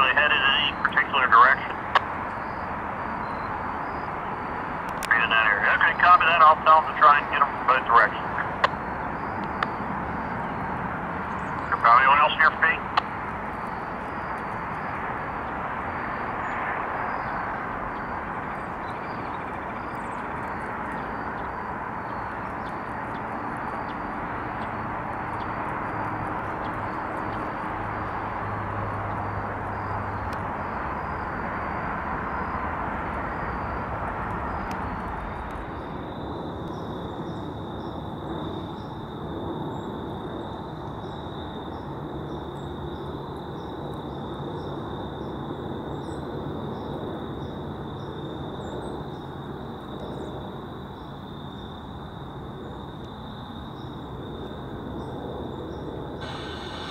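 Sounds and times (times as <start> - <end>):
jet airliner roar: 0.0 - 56.9.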